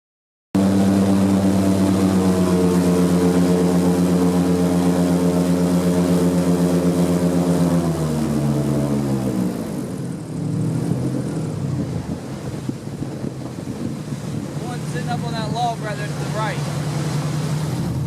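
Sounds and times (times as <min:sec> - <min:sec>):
airboat engine and propeller: 0:00.6 - 0:18.0.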